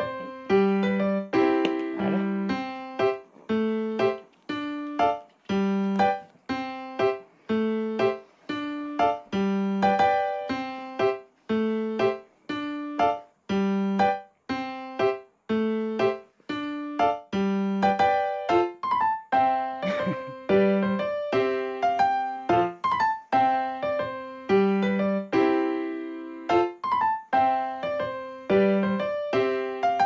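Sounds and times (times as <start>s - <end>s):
piano keyboard melody: 0.0s - 30.0s.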